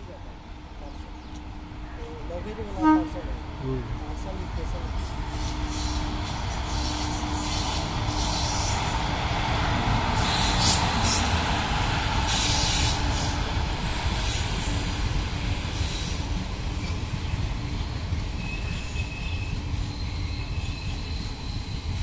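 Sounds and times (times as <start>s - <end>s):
train wheels rumbling on rails: 4.0s - 22.0s.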